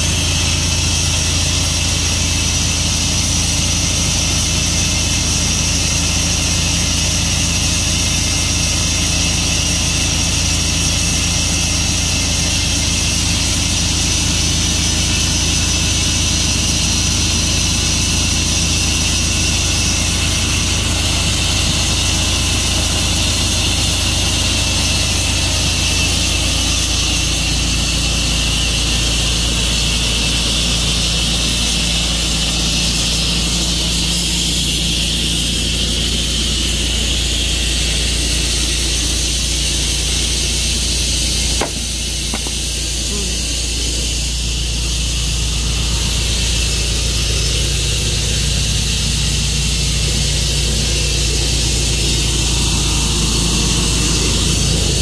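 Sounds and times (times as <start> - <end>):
saw blade high hiss: 0.0 - 55.0
sawmill engine hum: 0.0 - 55.0.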